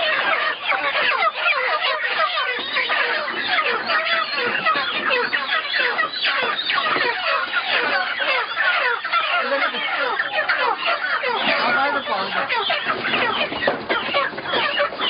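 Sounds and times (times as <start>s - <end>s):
chickens calling in distress: 0.0s - 15.0s.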